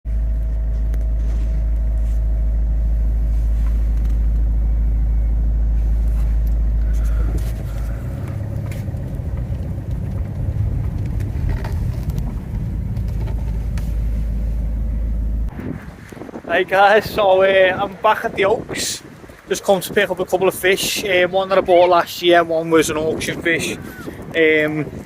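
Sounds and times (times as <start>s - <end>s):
car engine rumbling: 0.1s - 25.0s.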